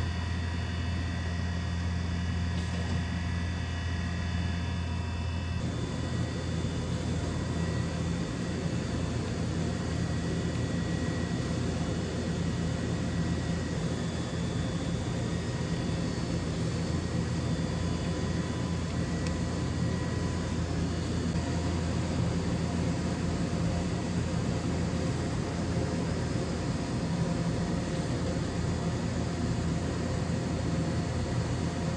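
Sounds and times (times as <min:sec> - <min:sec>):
machine low hum: 0:00.0 - 0:31.9.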